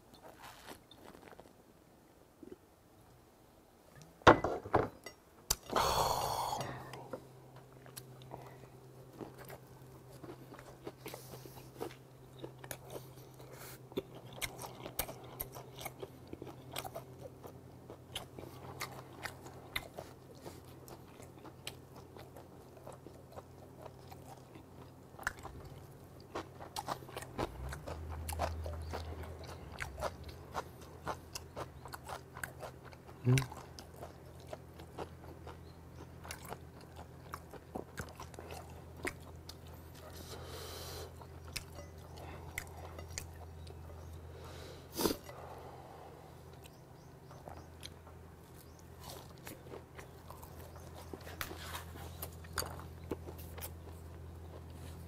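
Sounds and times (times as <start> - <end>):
person chewing with wet clicks: 6.6 - 40.2, 41.1 - 44.2, 46.5 - 55.0.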